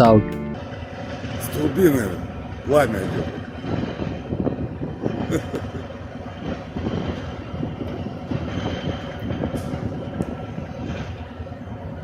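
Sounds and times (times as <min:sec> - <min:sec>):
diesel locomotive engine rumble: 0:00.0 - 0:12.0
exhaust crackling: 0:00.0 - 0:12.0.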